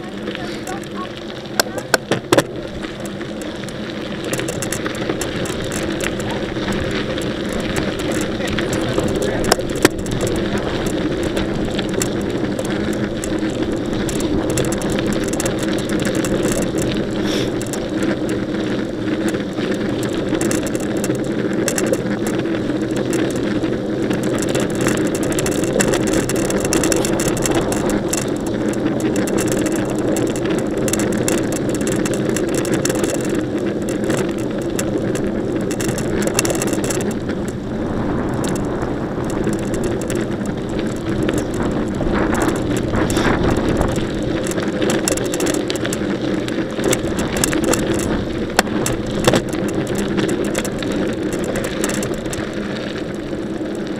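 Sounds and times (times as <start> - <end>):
bike rattles and clicks: 0.0 - 53.9
mountain bike rolling hum: 0.0 - 53.9.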